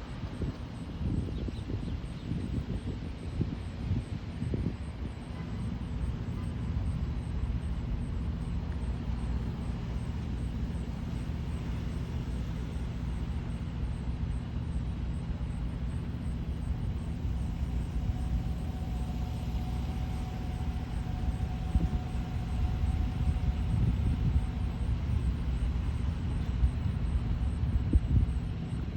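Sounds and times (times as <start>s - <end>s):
faint steady whine: 0.0s - 28.9s
jet engines rumbling: 0.0s - 28.9s.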